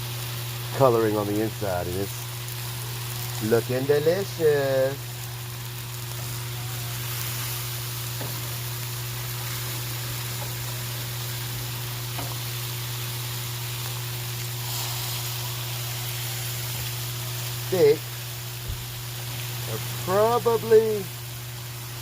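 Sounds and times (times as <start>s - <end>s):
meat sizzling on a griddle: 0.0s - 22.0s.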